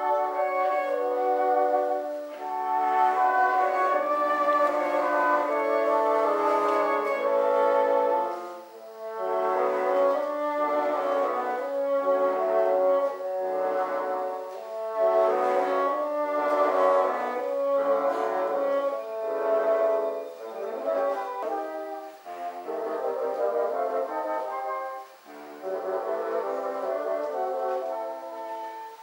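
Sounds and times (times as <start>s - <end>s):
bassoon ensemble playing chords: 0.0s - 29.0s.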